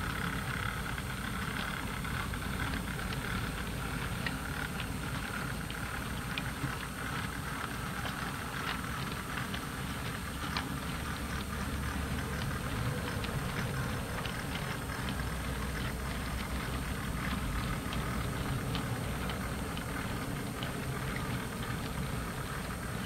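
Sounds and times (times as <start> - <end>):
model train wagons rumbling: 0.0 - 23.0
wheels clicking over rail joints: 0.0 - 23.0.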